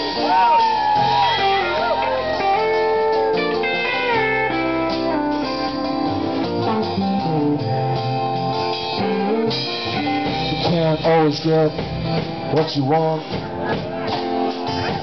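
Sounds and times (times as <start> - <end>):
bent guitar notes: 0.0 - 15.0
live band playing: 0.0 - 15.0.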